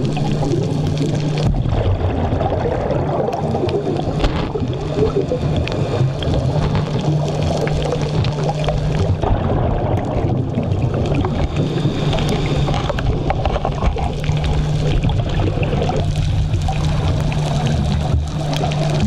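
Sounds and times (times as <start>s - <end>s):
crackle of clicks: 0.0s - 1.9s, 3.0s - 19.0s
low underwater hum: 0.0s - 19.0s
water noise: 0.0s - 19.0s.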